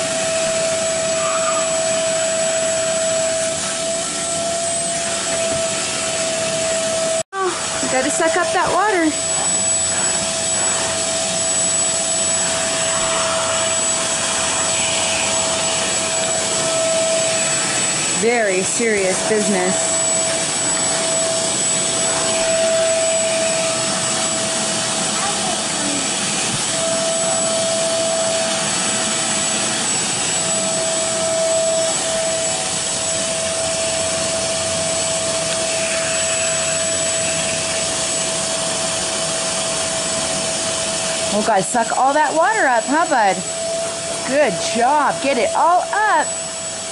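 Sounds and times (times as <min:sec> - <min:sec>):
suction motor whining: 0:00.0 - 0:46.9.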